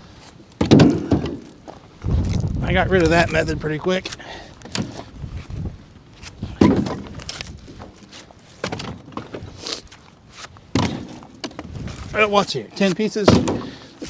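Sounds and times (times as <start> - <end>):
firewood thudding and knocking: 0.6 - 3.4, 4.0 - 14.0.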